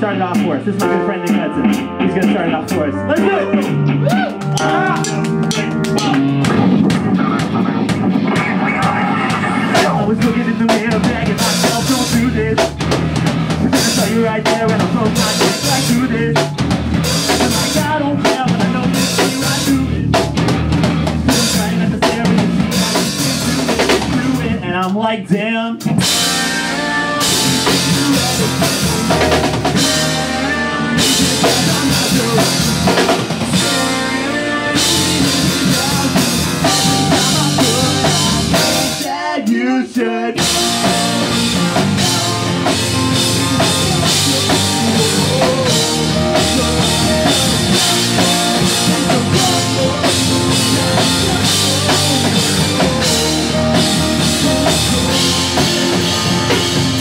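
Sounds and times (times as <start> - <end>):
rock band playing live: 0.0 - 39.2, 40.4 - 57.0.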